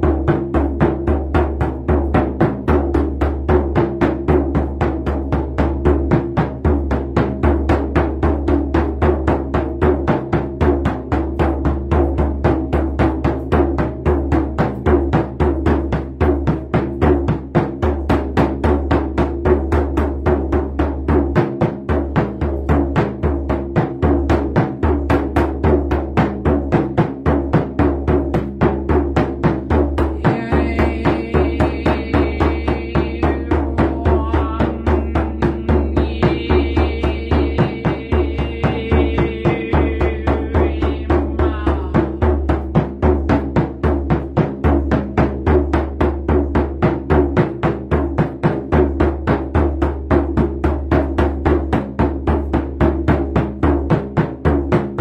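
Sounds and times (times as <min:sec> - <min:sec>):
hand drum beating: 0:00.0 - 0:55.0.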